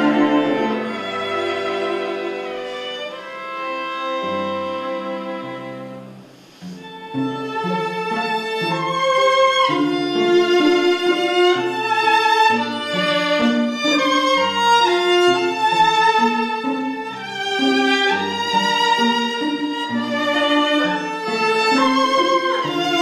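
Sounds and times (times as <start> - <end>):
low accompaniment: 0.0 - 23.0
violin melody: 0.0 - 23.0.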